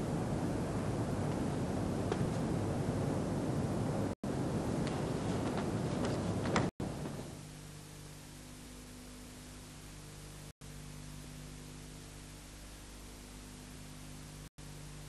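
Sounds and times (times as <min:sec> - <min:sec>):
low electrical hum: 0:00.0 - 0:15.0
tape hiss: 0:00.0 - 0:15.0.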